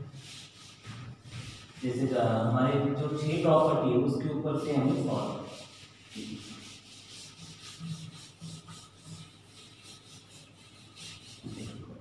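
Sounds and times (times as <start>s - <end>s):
duster wiping chalkboard: 0.0s - 12.0s.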